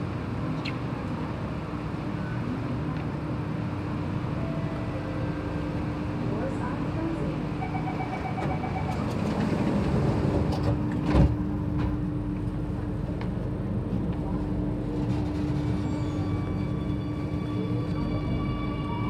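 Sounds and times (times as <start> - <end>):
standing train humming: 0.0 - 19.0.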